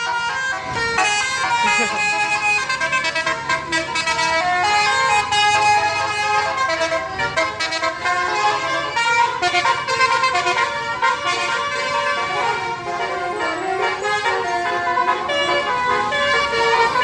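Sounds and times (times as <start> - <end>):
musical bus horn playing a tune: 0.0 - 17.0.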